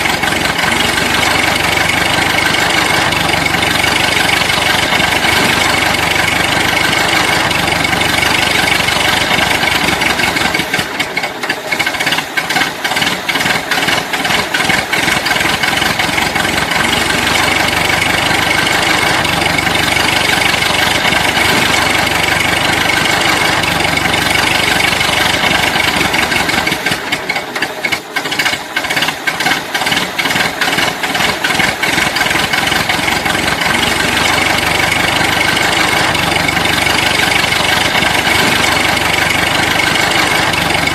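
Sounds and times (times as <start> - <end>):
engine running with rattle: 0.0 - 40.9.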